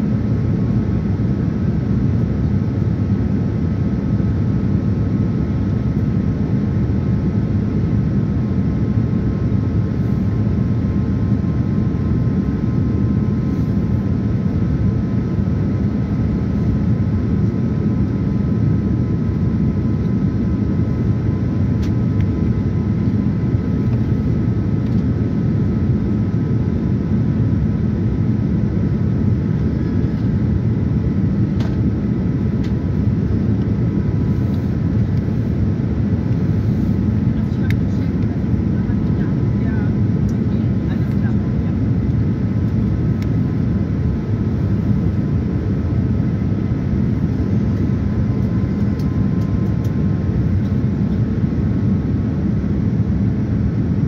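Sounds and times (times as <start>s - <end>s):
airliner cabin engine noise: 0.0s - 54.0s.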